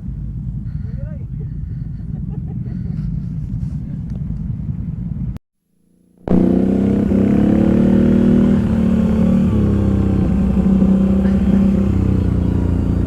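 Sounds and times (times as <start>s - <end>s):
engine droning: 0.0s - 5.4s, 6.0s - 13.0s.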